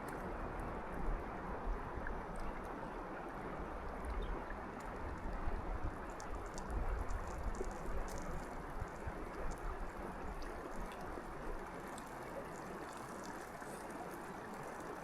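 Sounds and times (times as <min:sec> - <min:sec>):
wind rumble on microphone: 0:00.0 - 0:12.4
rushing flowing water: 0:02.7 - 0:15.0.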